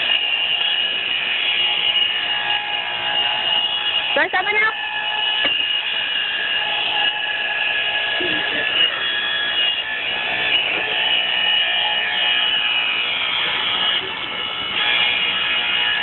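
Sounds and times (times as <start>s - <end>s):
small motor whining: 0.0s - 16.0s.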